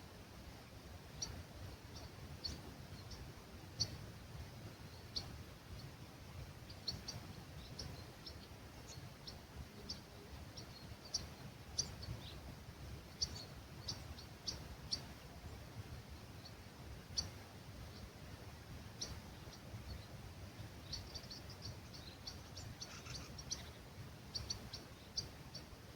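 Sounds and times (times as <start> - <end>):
small birds chirping: 0.6 - 25.9.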